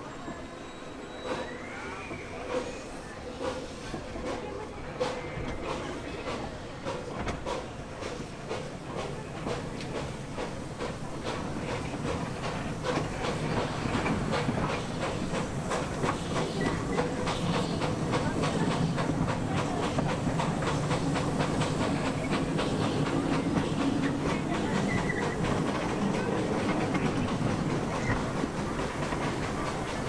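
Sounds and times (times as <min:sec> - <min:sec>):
miniature train rumbling: 0:01.1 - 0:30.0.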